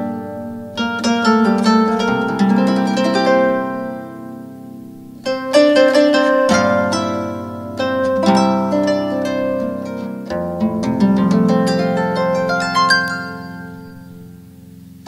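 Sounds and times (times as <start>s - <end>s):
plucked harp-like background music: 0.0s - 15.0s.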